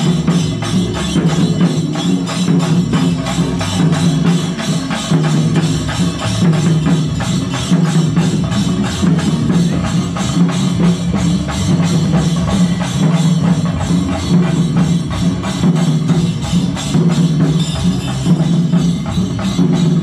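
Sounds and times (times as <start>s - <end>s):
procession drums beating fast: 0.0s - 20.0s.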